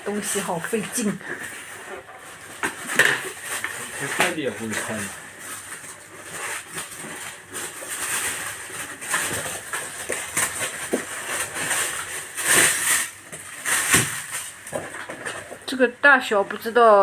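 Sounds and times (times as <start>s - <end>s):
packaging rustling and tearing: 0.1s - 15.8s.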